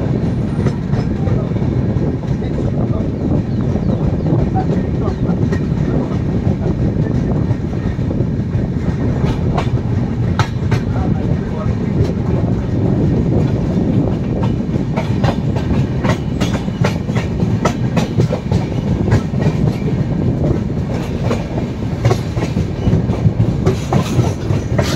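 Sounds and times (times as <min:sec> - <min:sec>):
train wheels rumbling: 0:00.0 - 0:24.9
wheels clacking over rail joints: 0:04.0 - 0:24.9.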